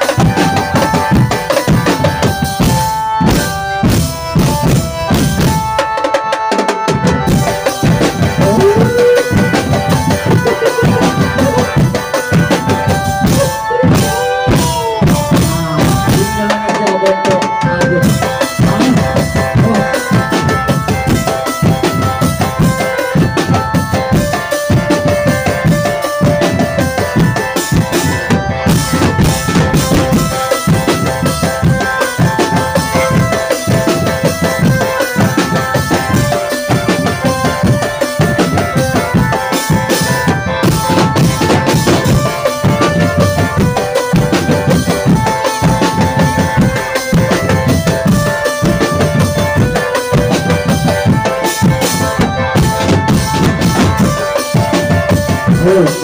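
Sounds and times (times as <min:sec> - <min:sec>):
fast drumming: 0:00.0 - 0:56.0
sustained melody with bending notes: 0:00.0 - 0:56.0.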